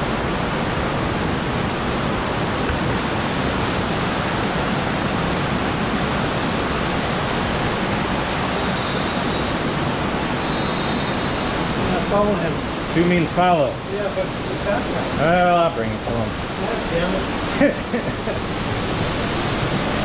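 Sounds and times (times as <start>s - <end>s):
water rushing in a cave: 0.0s - 20.0s.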